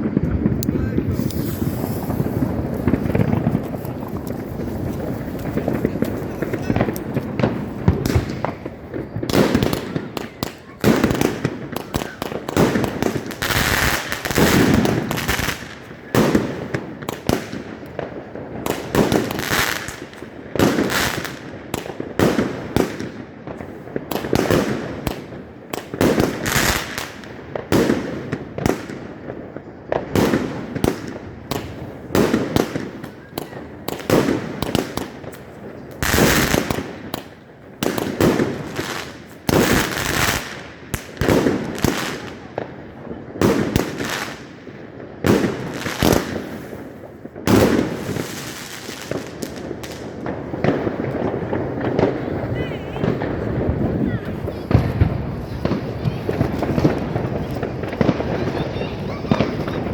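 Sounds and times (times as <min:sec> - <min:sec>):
fireworks firing with bursts: 0:00.0 - 0:59.9.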